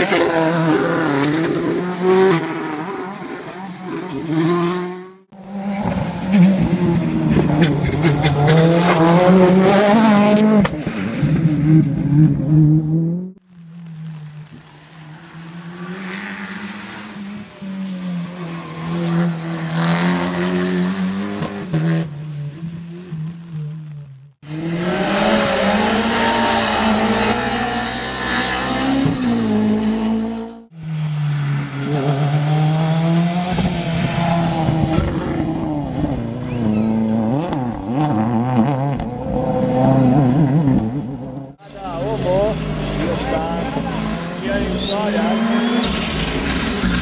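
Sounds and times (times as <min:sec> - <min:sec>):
rally car engines revving: 0:00.0 - 0:14.2, 0:14.9 - 0:47.0.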